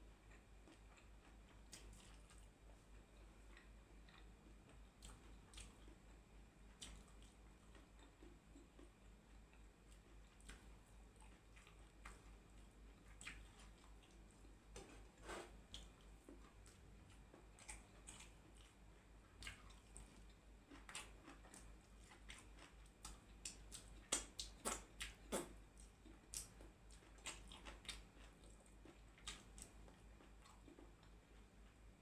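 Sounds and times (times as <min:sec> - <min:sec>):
faint low hum: 0:00.0 - 0:32.0
person chewing: 0:00.3 - 0:06.1, 0:06.7 - 0:31.6.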